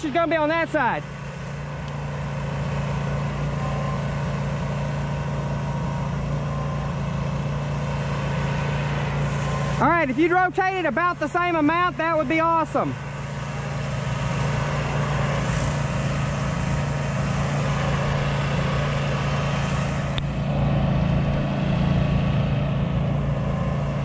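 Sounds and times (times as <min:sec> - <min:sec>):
pressure washer engine running: 0:00.0 - 0:24.0.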